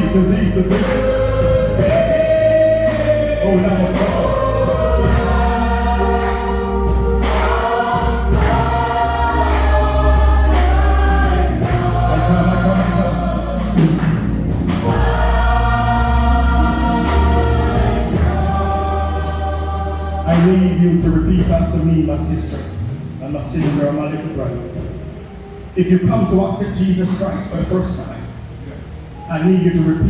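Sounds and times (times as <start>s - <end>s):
choir singing a hymn: 0.0s - 28.3s
low instrumental accompaniment: 0.0s - 30.0s.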